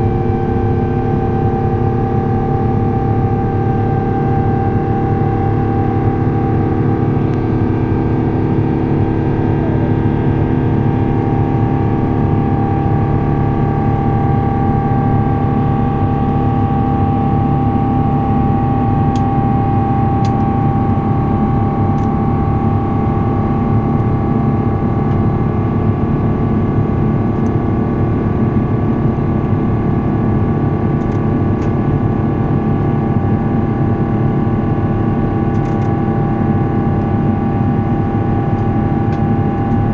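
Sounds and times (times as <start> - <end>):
steady hums: 0.0 - 35.0
airplane cabin engine noise: 0.0 - 39.9.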